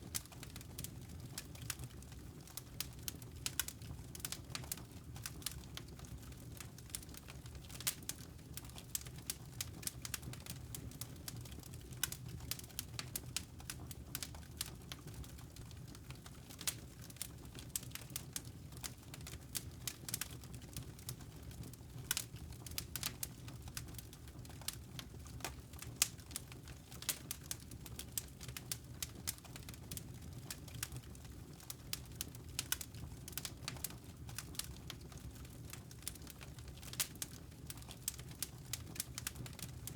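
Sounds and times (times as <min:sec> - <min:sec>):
fire snapping and popping: 0:00.0 - 0:39.9
low rumble of fire: 0:00.0 - 0:39.9.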